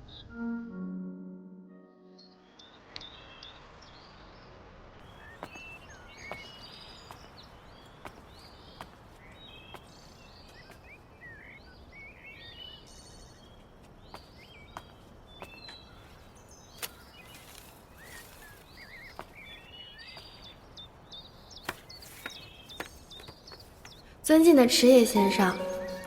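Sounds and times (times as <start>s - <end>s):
small birds chirping: 5.1s - 26.0s.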